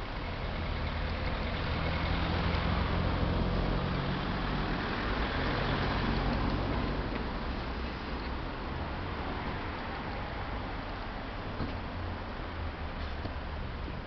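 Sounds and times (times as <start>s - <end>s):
street traffic noise: 0.0s - 14.0s.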